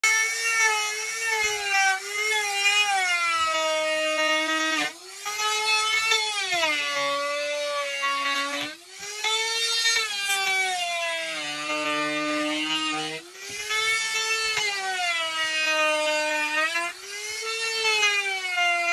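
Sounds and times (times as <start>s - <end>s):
trim router whining: 0.0s - 18.9s.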